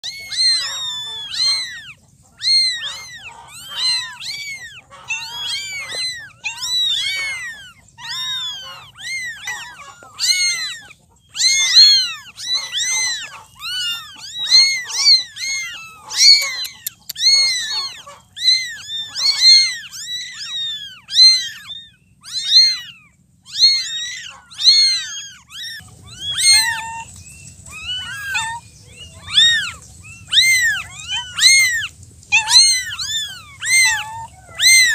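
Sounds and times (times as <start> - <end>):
kittens meowing: 0.0 - 34.9.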